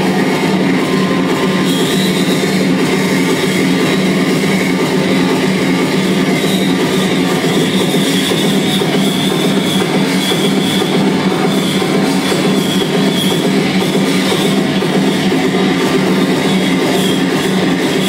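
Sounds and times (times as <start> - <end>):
wall of distorted noise: 0.0 - 18.0.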